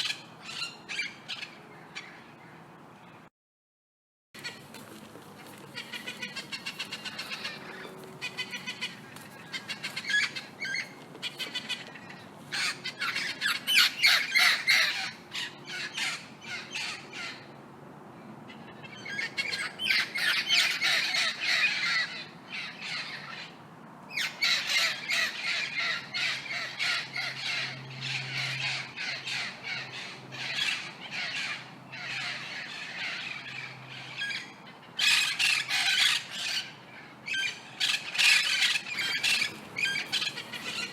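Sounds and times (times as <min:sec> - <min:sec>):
parrots squawking: 0:00.0 - 0:02.2, 0:05.7 - 0:17.5, 0:18.5 - 0:40.9.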